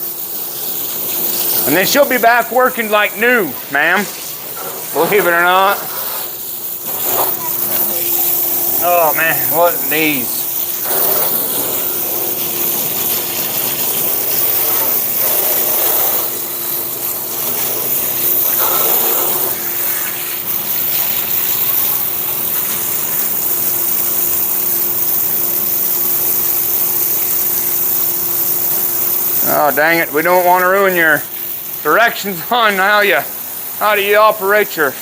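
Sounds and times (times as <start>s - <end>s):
hose spraying water: 0.0s - 35.0s
water pump humming: 0.0s - 35.0s.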